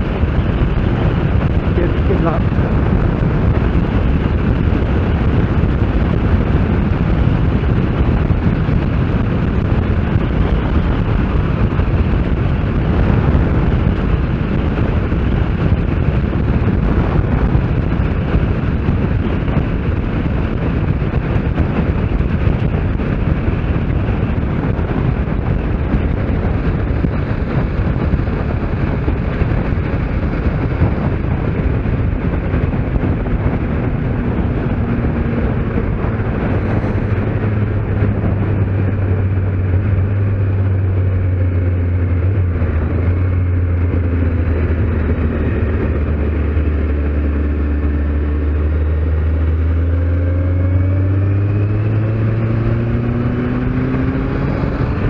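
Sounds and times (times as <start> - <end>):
motorcycle engine drone: 0.0 - 55.0
wind rush on microphone: 0.0 - 55.0.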